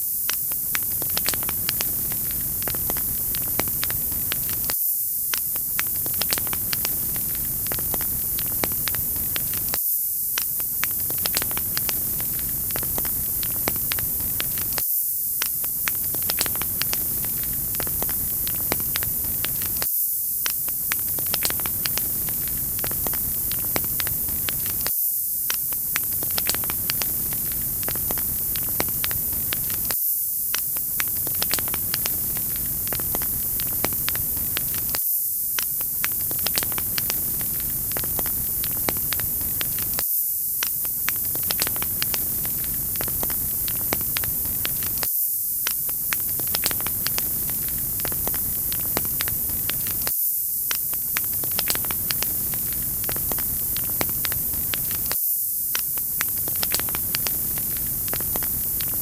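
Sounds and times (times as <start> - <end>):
wood fire crackling: 0.3 - 4.7, 5.3 - 9.8, 10.6 - 14.8, 15.4 - 24.9, 25.5 - 30.0, 30.7 - 35.0, 35.6 - 40.0, 40.6 - 50.1, 50.7 - 55.2, 55.8 - 59.0.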